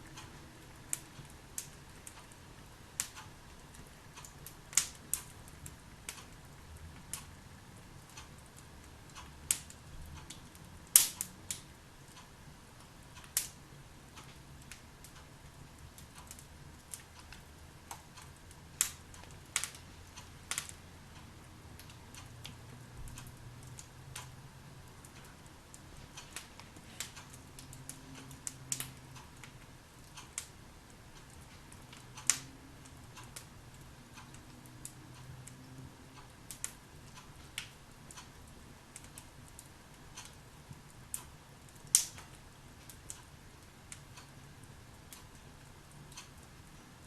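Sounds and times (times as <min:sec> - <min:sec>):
faint steady hiss: 0:00.0 - 0:47.0
log fire crackling and popping: 0:00.0 - 0:47.0.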